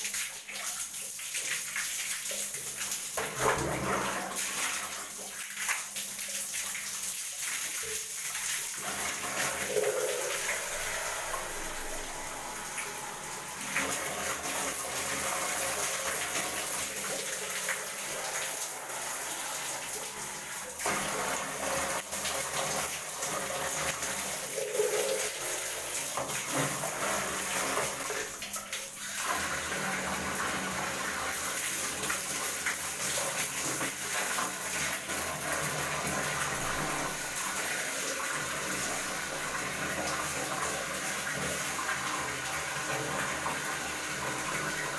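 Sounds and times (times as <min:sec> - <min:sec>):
water running from a tap: 0:00.0 - 0:44.9.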